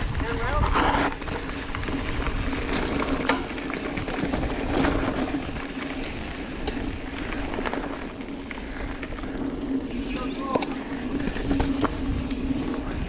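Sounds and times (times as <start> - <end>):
wind rumble on microphone: 0.0 - 7.8, 8.9 - 13.0
bike rattling: 0.0 - 13.0
tyres crunching on gravel: 0.2 - 13.0.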